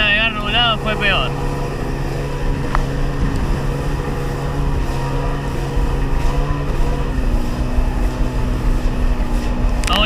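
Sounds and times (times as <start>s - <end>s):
rush of wind and water: 0.0s - 10.0s
watercraft engine running: 0.0s - 10.0s.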